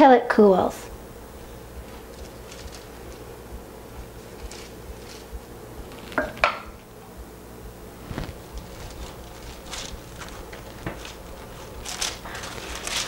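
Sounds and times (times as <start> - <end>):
wax paper rustling: 1.2 - 6.6, 7.9 - 13.0.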